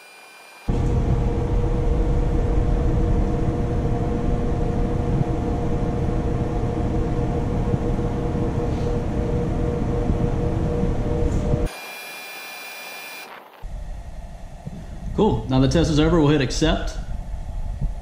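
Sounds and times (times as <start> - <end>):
fan rushing air: 0.2 - 12.1, 12.8 - 18.0.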